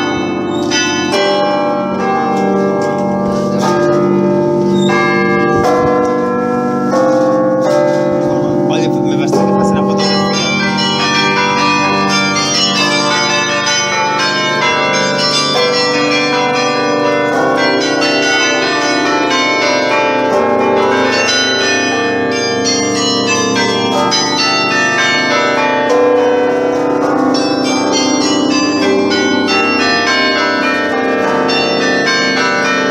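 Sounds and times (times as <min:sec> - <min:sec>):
carillon bells playing a tune: 0:00.0 - 0:32.9.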